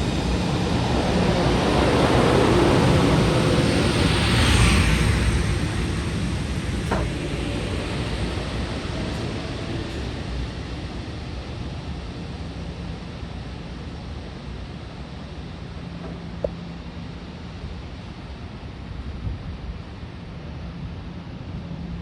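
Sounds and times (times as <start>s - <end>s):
train wheel and track rumble: 0.0s - 22.0s.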